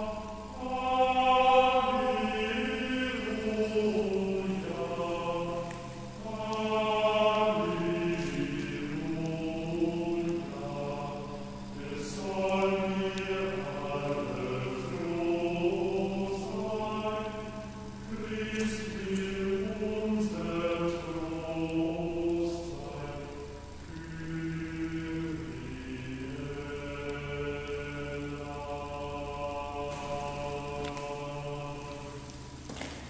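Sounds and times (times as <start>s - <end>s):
steady low drone: 0.0s - 32.6s
slow chanted singing: 0.0s - 33.0s.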